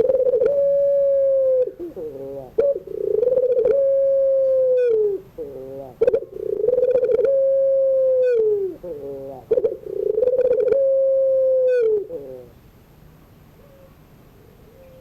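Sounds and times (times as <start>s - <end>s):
dove cooing: 0.0s - 12.6s.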